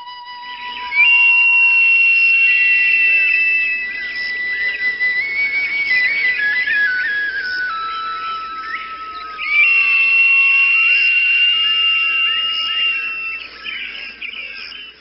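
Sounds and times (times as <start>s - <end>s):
flute-like wind instrument note: 0.0s - 13.2s
birdsong-like chirps: 0.0s - 15.0s
low sustained tone: 0.0s - 15.0s.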